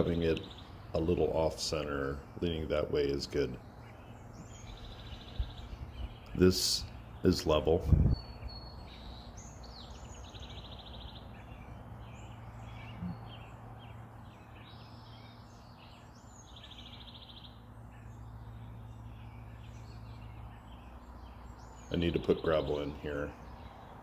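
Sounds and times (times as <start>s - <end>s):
birds singing and chirping: 0.0s - 24.0s
steady low hum: 0.0s - 24.0s.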